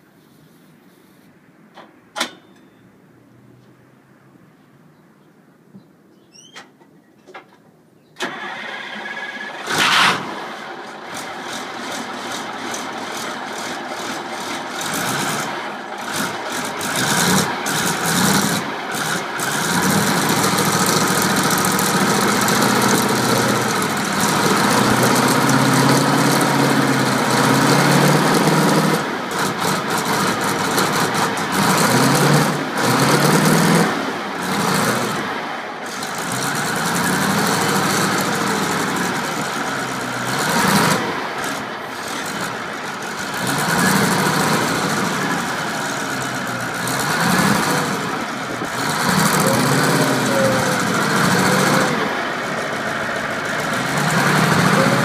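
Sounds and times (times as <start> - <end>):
diesel engine starting and running: 8.2 - 55.0.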